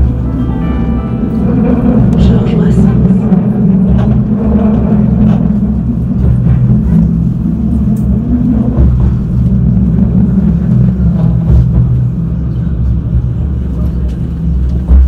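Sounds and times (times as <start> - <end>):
tram rumbling from inside: 0.0 - 15.0.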